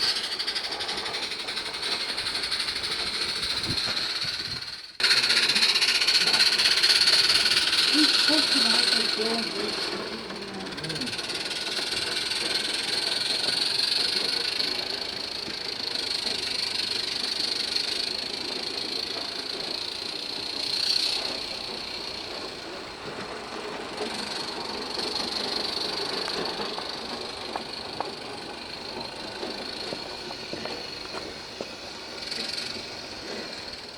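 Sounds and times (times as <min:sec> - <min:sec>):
steam locomotive hissing: 0:00.0 - 0:33.9.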